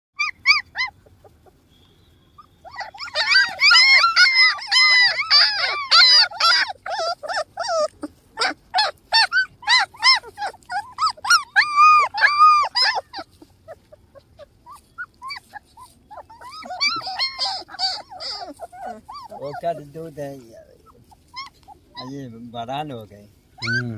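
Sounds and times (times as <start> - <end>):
puppies whining and yelping: 0.2 - 1.7, 2.3 - 22.9, 23.5 - 23.9.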